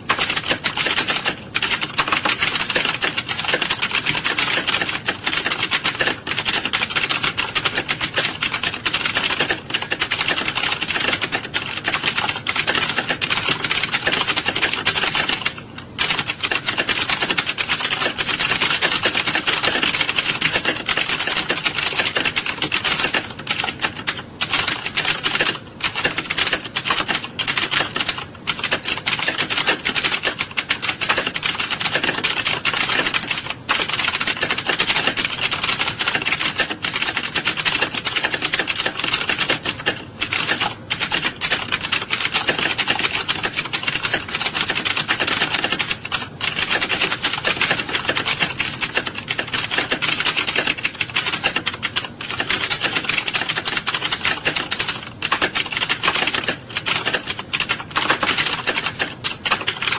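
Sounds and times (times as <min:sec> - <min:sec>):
many keyboards typing: 0:00.0 - 0:59.9.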